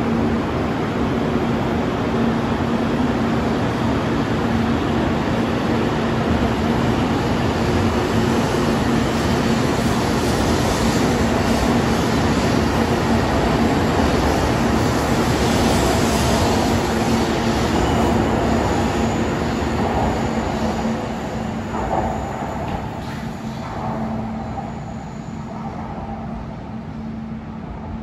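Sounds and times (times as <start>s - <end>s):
train rushing past: 0.0s - 28.0s.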